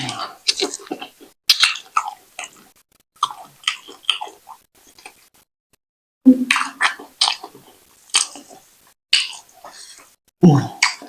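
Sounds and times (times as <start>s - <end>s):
wet chewing and squelching: 0.0s - 5.5s, 6.4s - 10.2s.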